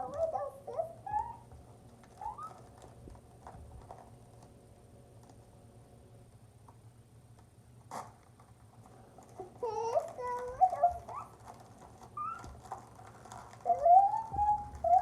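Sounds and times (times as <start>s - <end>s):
plastic packaging clicks and rustles: 1.5s - 5.6s, 6.6s - 15.0s.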